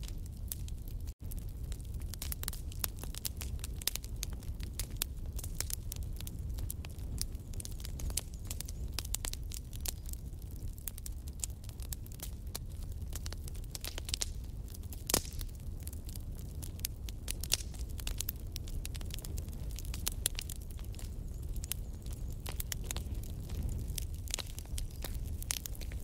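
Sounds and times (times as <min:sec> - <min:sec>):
logs crackling and popping: 0:00.0 - 0:26.0
low rumble of flames: 0:00.0 - 0:26.0.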